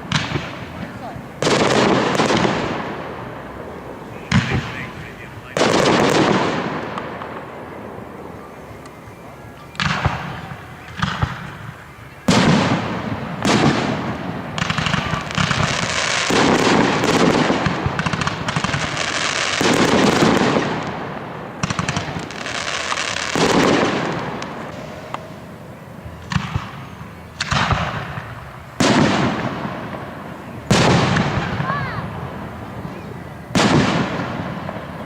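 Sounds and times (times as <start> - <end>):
fireworks bangs: 0.0 - 35.0
fireworks crackling and popping: 0.0 - 35.0.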